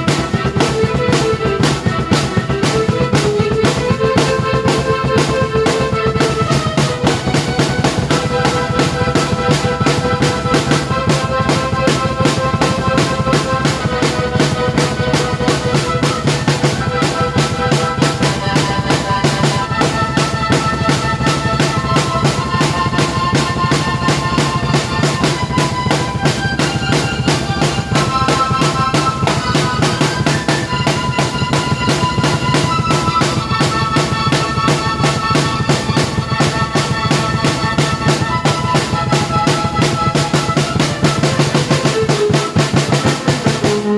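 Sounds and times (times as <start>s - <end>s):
drum kit playing: 0.0s - 43.9s.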